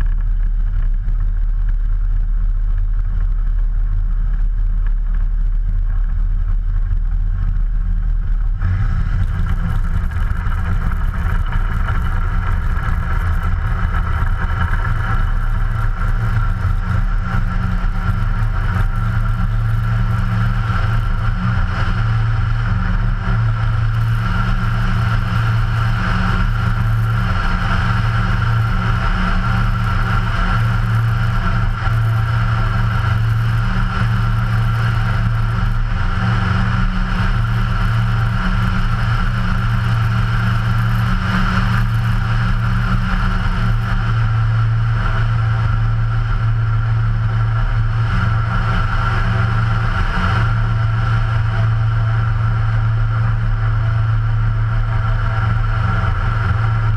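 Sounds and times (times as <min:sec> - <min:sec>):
light aircraft engine and propeller: 0:00.0 - 0:56.9.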